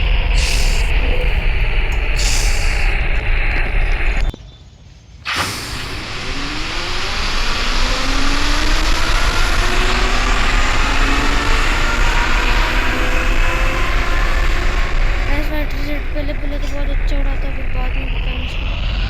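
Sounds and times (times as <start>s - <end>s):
vehicle engine running: 0.0s - 4.4s, 5.4s - 19.0s.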